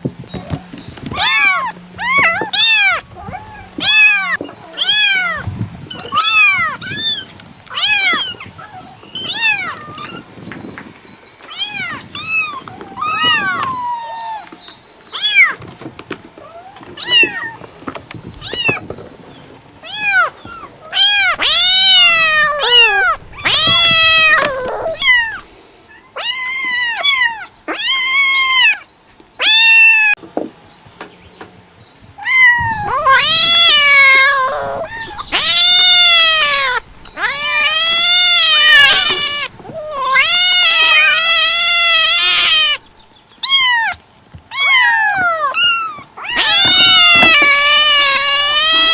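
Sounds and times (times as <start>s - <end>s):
cats meowing: 0.4s - 10.3s, 11.5s - 14.6s, 16.4s - 17.7s, 19.8s - 28.8s, 29.4s - 30.2s, 32.2s - 48.9s.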